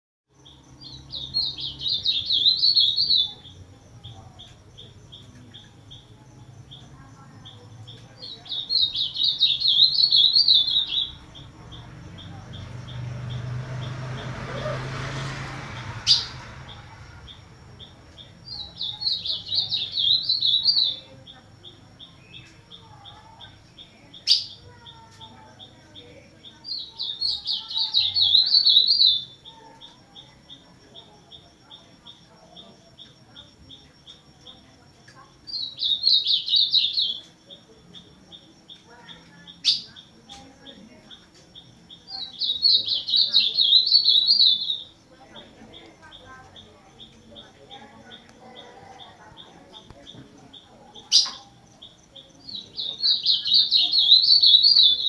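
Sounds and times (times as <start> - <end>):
bird warbling song: 0.4 - 14.8, 15.8 - 34.6, 35.4 - 55.0.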